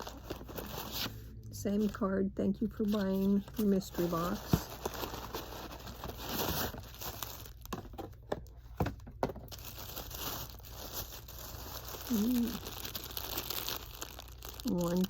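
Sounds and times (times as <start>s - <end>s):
packaging crinkling: 0.0s - 1.2s, 2.7s - 15.0s.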